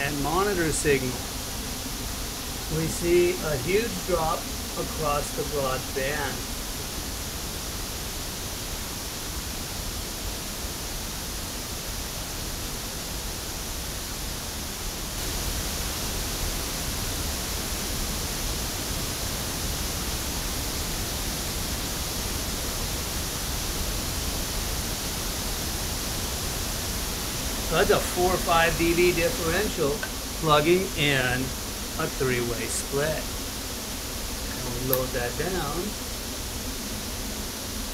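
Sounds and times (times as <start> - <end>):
pink noise hiss from loudspeaker: 0.0 - 37.9.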